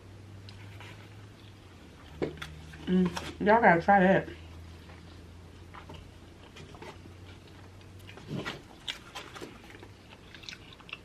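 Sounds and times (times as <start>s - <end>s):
people chewing and lip smacking: 0.4s - 3.3s, 4.8s - 11.0s.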